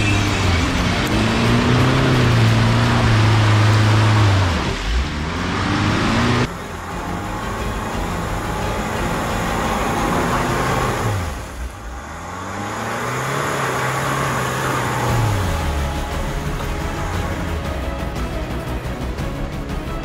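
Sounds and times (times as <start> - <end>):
diesel engine pulling through mud: 0.0 - 20.0.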